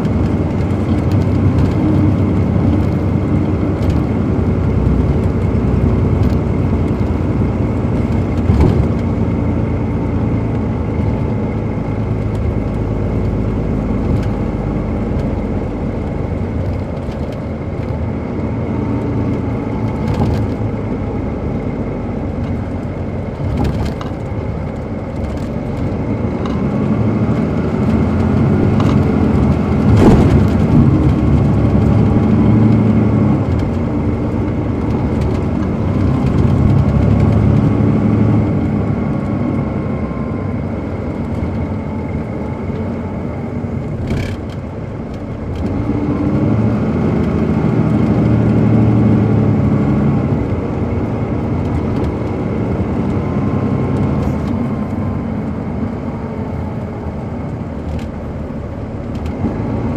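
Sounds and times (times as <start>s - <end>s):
bus diesel engine pulling: 0.0s - 59.9s.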